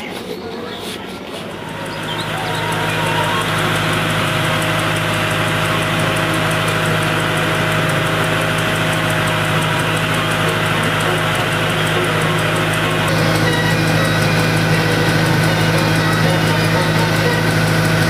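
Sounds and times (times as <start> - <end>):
stationary engine running: 1.4 - 18.0.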